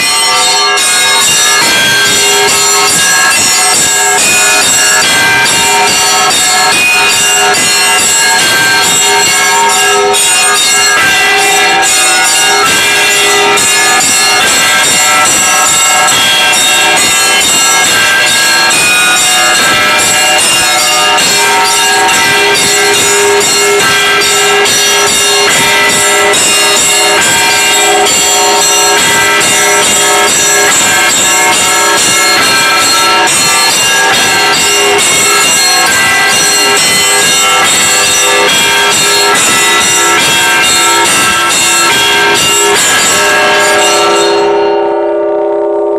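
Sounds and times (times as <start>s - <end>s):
church bells pealing: 0.0s - 45.9s.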